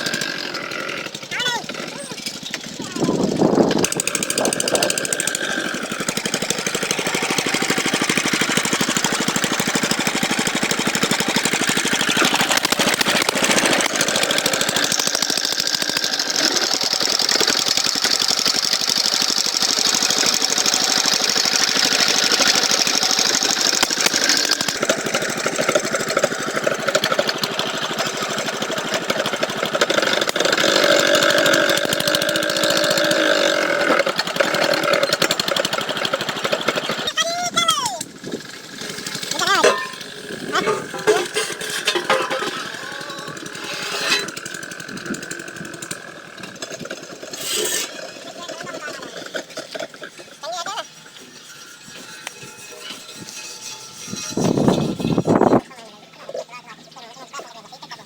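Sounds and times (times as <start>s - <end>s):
boring machine clattering: 0.0s - 37.1s, 38.0s - 55.6s.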